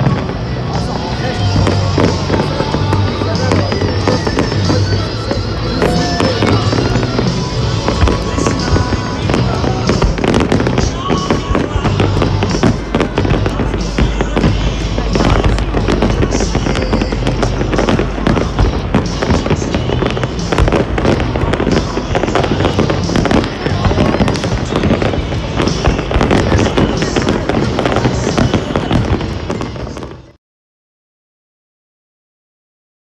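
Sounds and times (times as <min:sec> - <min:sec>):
fireworks bursting and crackling: 0:00.0 - 0:30.4
music playing: 0:00.0 - 0:30.4.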